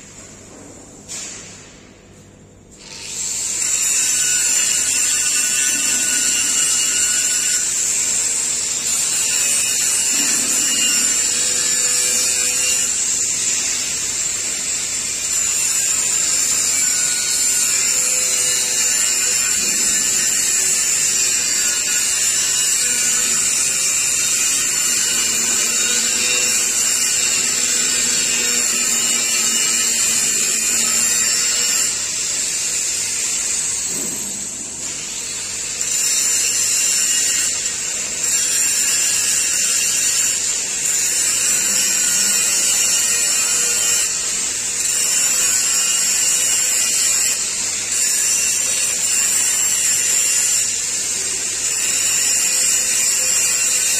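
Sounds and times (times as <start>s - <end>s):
angle grinder grinding metal pipe: 2.8s - 53.9s.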